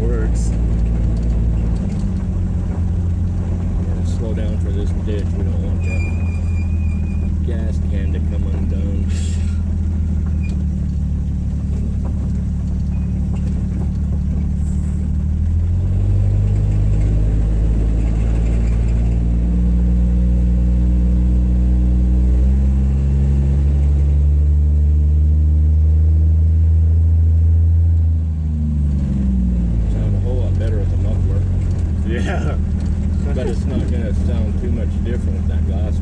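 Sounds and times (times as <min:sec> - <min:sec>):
car engine and exhaust running: 0:00.0 - 0:36.0.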